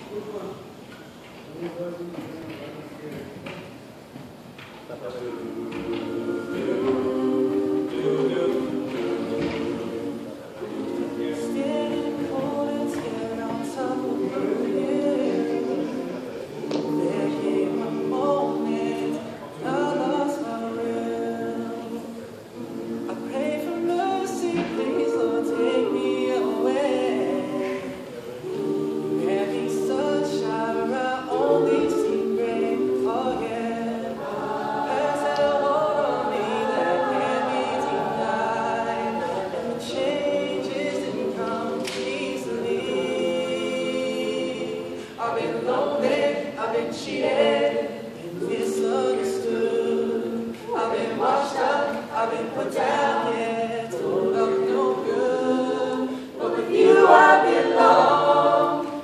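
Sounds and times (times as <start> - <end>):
vocal group singing in harmony: 4.3 - 59.0.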